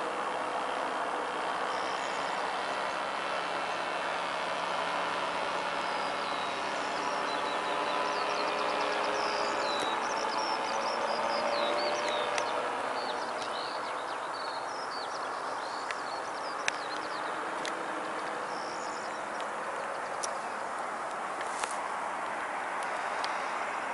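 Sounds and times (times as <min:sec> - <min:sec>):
small birds chirping: 0:00.0 - 0:21.8
faint paraglider motor drone: 0:00.0 - 0:23.9.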